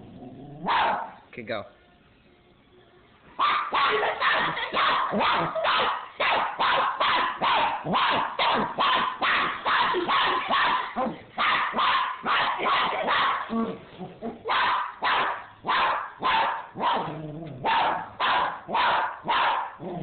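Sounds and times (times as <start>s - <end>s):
puppy barking: 0.6s - 1.2s, 3.4s - 20.0s.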